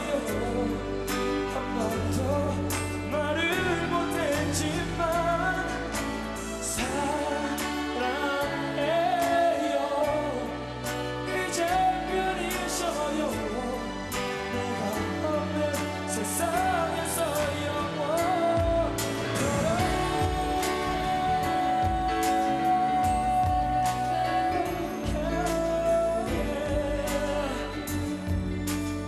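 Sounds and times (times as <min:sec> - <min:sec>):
instrumental accompaniment: 0:00.0 - 0:29.0
man singing into microphone: 0:00.0 - 0:29.0.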